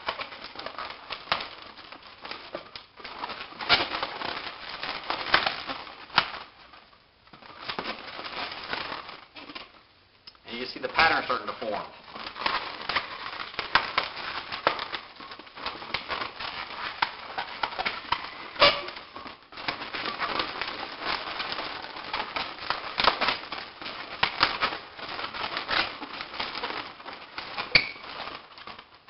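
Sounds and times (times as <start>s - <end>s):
balloons rubbing and crackling: 0.0s - 29.0s.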